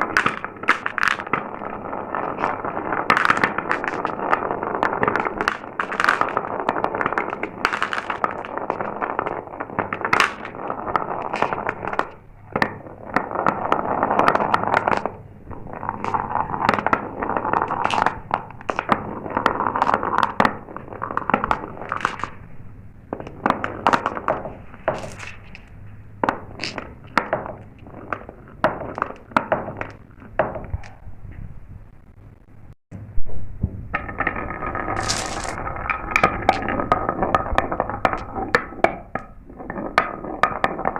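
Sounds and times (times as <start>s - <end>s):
marbles clicking on track: 0.0s - 22.5s, 23.2s - 30.8s, 34.0s - 40.9s
marbles rolling on track: 0.0s - 30.9s, 33.9s - 40.9s.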